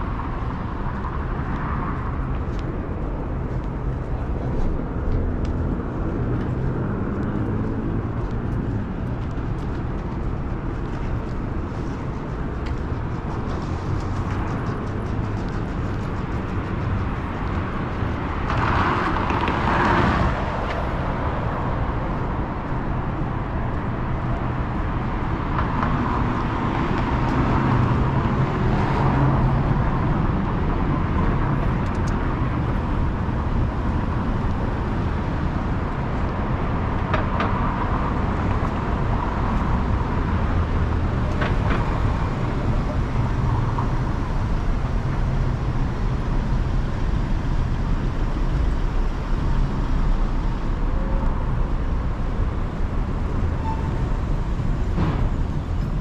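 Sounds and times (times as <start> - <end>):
traffic noise: 0.0 - 56.0
vehicles passing: 0.0 - 56.0.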